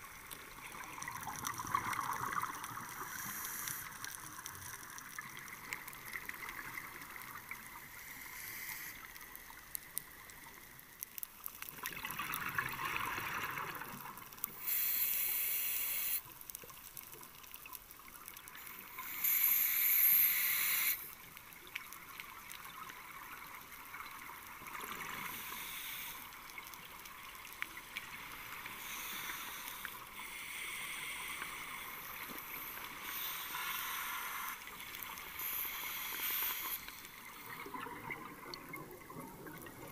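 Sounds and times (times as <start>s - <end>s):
underwater hiss with crackle: 0.0s - 39.9s.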